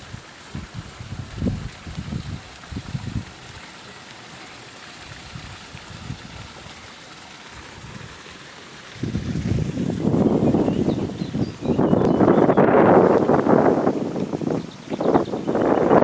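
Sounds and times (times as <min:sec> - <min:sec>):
wind buffeting microphone: 0:00.0 - 0:03.6, 0:05.0 - 0:06.7, 0:07.5 - 0:08.3, 0:08.9 - 0:16.0
small waterfall running: 0:00.0 - 0:16.0.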